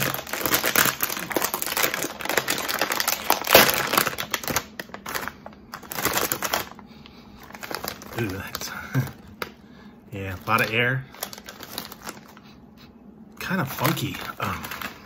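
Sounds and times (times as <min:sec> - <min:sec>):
foil chip bag crinkling: 0:00.0 - 0:12.6, 0:13.4 - 0:15.0.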